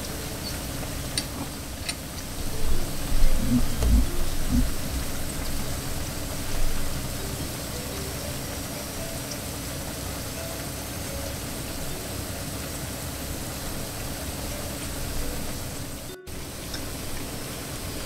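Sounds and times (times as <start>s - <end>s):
plantain sizzling in oil: 0.0s - 18.0s.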